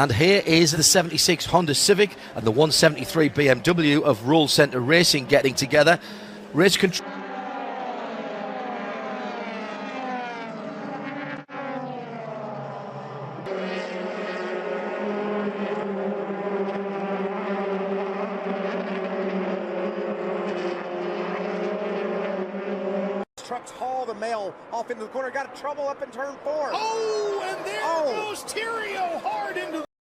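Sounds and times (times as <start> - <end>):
racing car engine: 0.0 - 29.9.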